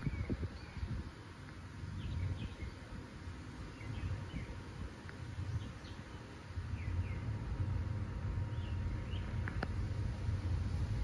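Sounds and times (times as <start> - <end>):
bird chirping: 0.0 - 10.1
distant rocket engine rumble: 0.0 - 11.0.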